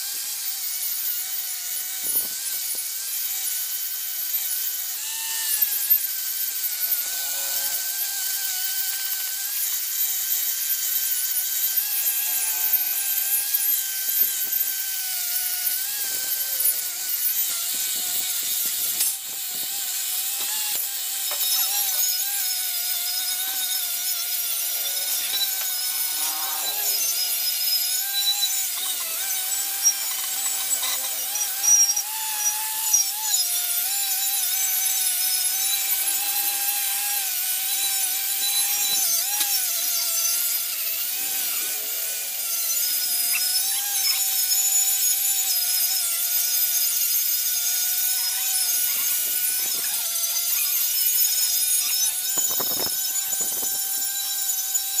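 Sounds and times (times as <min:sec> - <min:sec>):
angle grinder on metal: 0:00.0 - 0:55.0.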